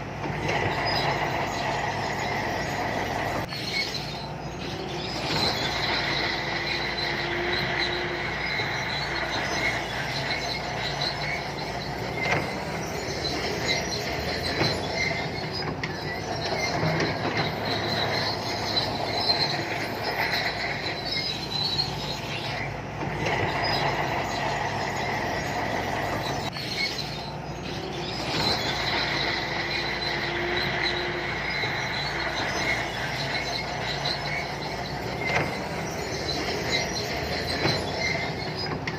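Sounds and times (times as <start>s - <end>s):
bulldozer diesel engine: 0.0s - 38.9s
steel tracks squealing and clanking: 0.0s - 38.9s.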